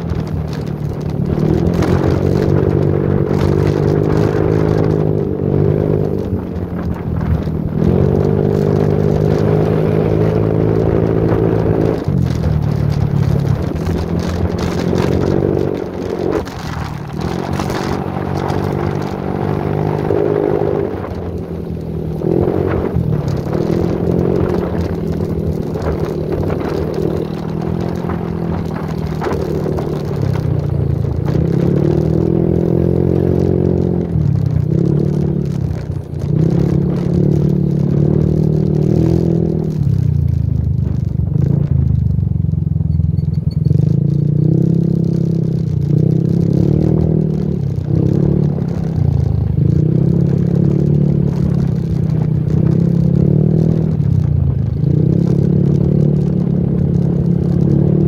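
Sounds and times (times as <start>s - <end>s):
motorbike engine running: 0.0s - 58.0s.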